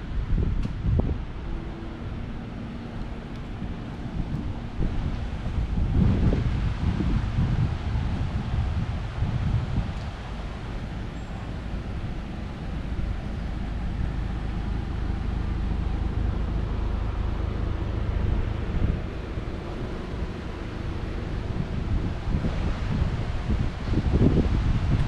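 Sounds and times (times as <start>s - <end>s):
street traffic rumbling past: 0.0s - 25.0s
wind buffeting microphone: 0.0s - 25.0s.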